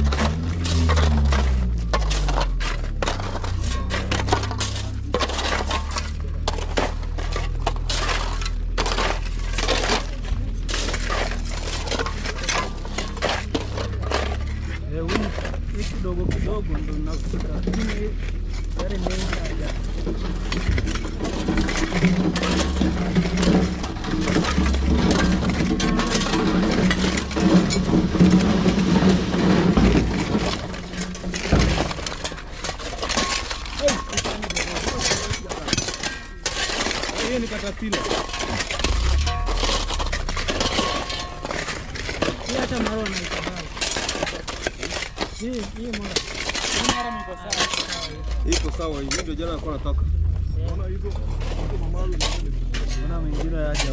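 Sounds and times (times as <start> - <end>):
heavy engine humming: 0.0 - 47.3, 48.0 - 53.9
gravel crunching and grinding: 0.0 - 53.9.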